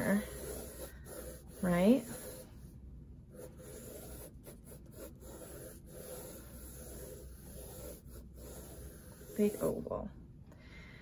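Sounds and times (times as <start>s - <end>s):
pencil scratching on paper: 0.0s - 10.0s.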